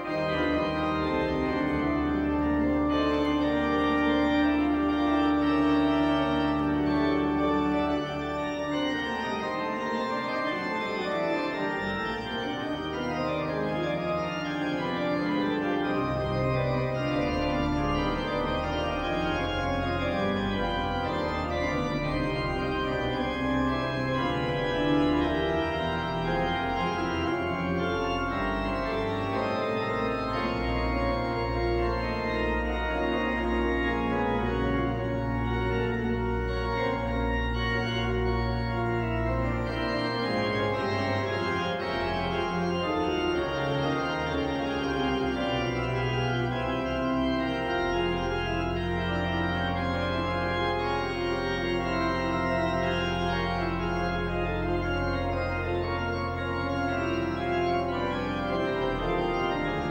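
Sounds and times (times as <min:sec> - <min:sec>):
deep organ pedal bass notes: 0:00.0 - 0:59.9
organ playing sustained chords: 0:00.0 - 0:59.9.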